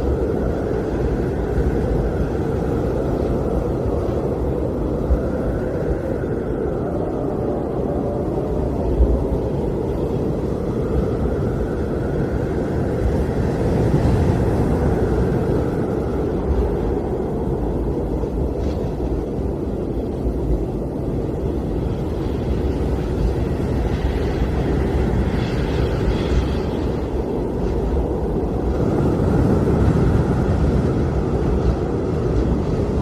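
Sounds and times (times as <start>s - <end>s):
blizzard wind gusting: 0.0s - 33.0s
faint wind whistle: 0.0s - 33.0s.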